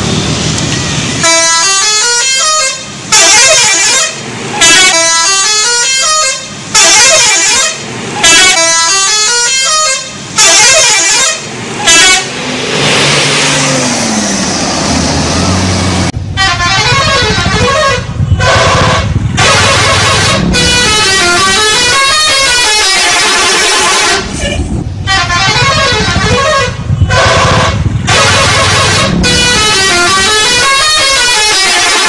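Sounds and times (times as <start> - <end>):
musical bus air horn: 1.2 - 12.4, 16.4 - 32.0.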